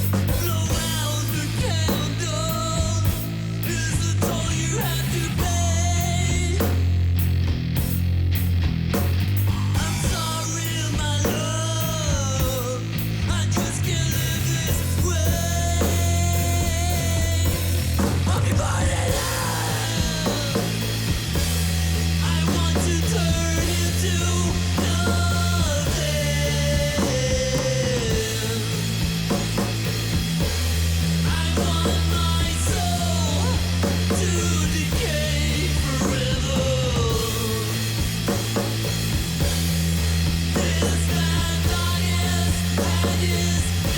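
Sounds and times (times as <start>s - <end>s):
stoner rock band playing: 0.0s - 43.9s.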